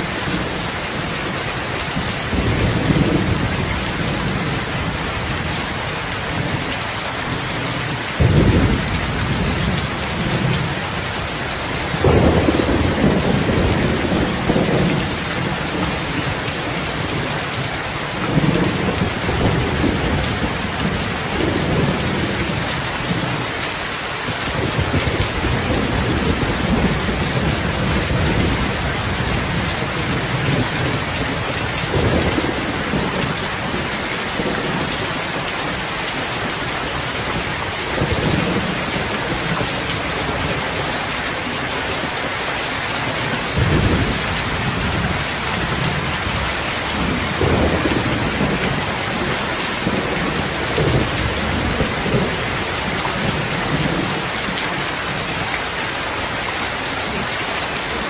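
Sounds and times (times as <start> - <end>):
thunder clap and rumbles: 0.0 - 23.6, 24.3 - 55.6
heavy rain: 0.0 - 58.0.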